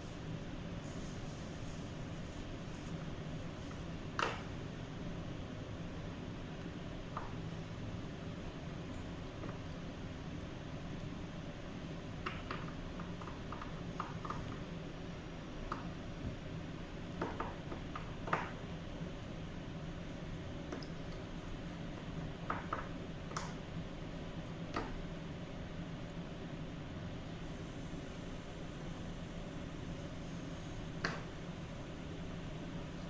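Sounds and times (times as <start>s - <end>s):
steady background hiss: 0.0s - 33.0s.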